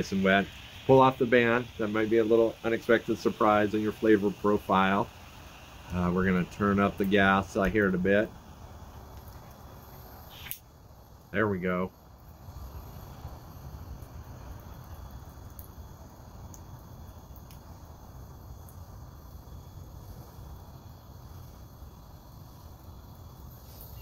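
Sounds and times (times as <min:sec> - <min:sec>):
gas flame rushing: 0:00.0 - 0:24.0.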